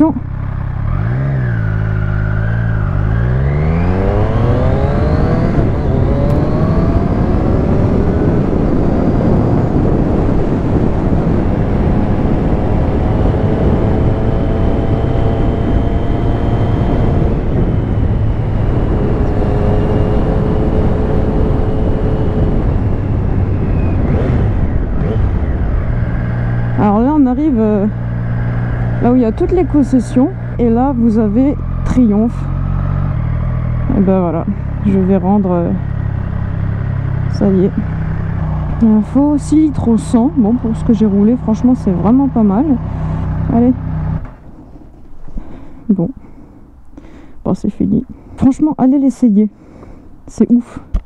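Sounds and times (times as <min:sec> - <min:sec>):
motorcycle engine accelerating hard: 0:00.0 - 0:45.6
wind rushing over microphone: 0:00.8 - 0:51.0.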